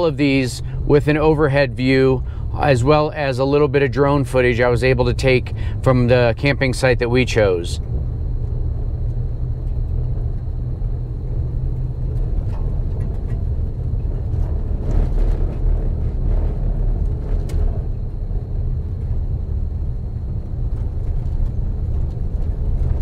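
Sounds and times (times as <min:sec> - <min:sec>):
vehicle rumble on gravel: 0:00.0 - 0:23.0.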